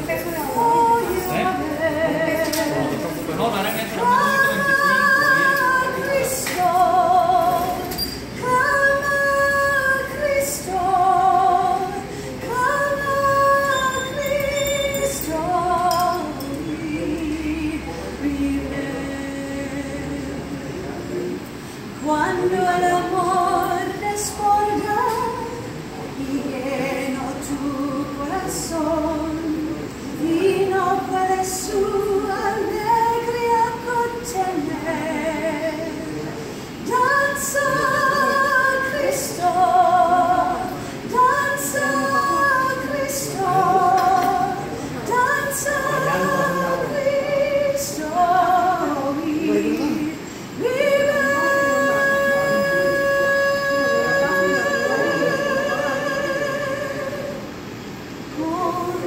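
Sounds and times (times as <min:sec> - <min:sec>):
woman singing with vibrato: 0:00.0 - 0:59.0.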